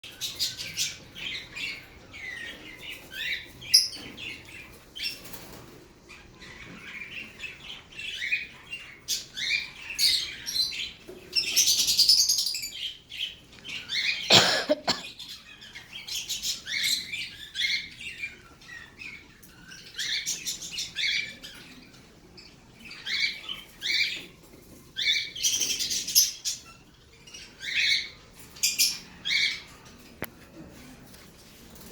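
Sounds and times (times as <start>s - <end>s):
lovebirds chirping: 0.0s - 30.0s.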